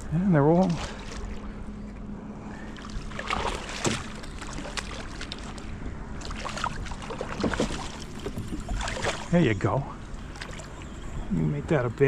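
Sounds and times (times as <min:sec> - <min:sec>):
water splashes: 0:00.0 - 0:01.7, 0:02.4 - 0:11.3
water washing against hull: 0:00.0 - 0:11.3
boat low hum: 0:00.0 - 0:12.0.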